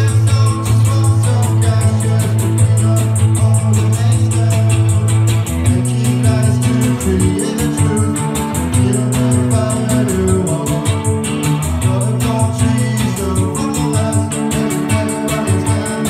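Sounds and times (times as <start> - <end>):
bass line: 0.0 - 16.0
electric guitar: 0.0 - 16.0
fast drum beat: 0.0 - 16.0.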